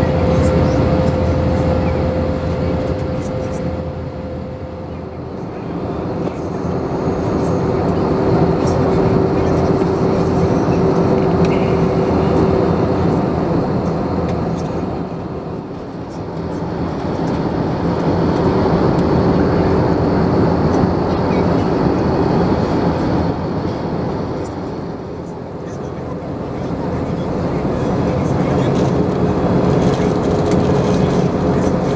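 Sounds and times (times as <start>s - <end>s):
airplane cabin roar: 0.0s - 31.9s
steady hum: 0.0s - 31.9s.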